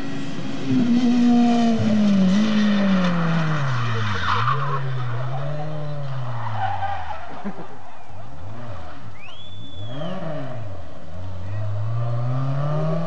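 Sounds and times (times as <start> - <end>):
rally car engine: 0.0 - 13.0
tyres skidding: 0.0 - 13.0.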